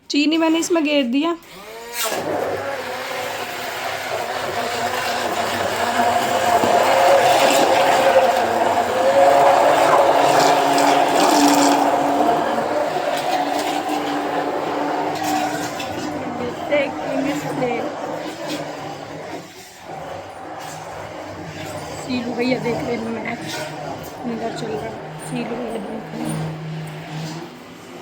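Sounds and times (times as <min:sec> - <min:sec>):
mixer grinder motor running: 0:00.0 - 0:28.0.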